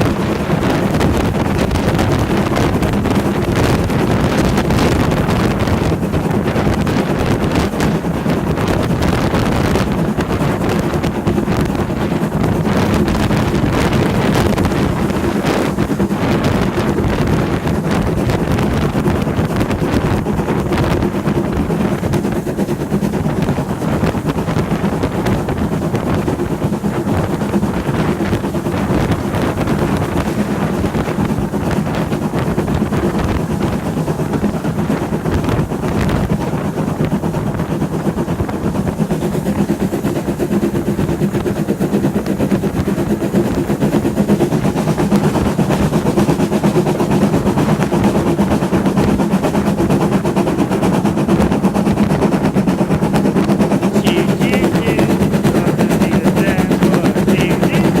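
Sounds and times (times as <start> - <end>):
train rumbling along tracks: 0.0 - 58.0.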